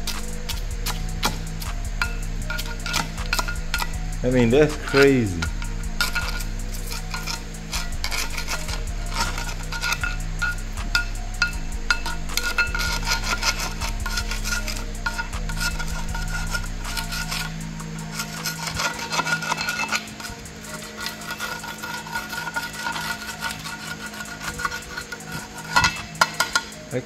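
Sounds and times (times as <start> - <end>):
metal tools clinking and scraping: 0.0 - 27.0
steady low hum: 0.0 - 27.0.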